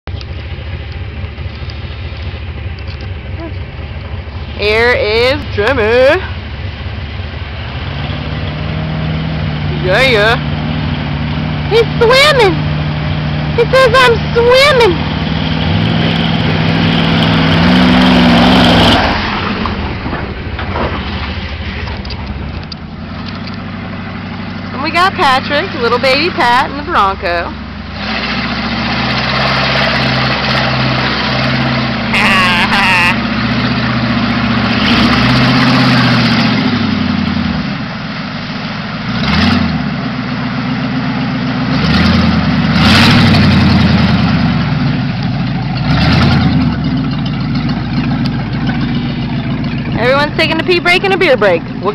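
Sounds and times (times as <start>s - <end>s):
truck engine revving: 0.0s - 51.9s
muddy water splashing: 0.1s - 51.9s.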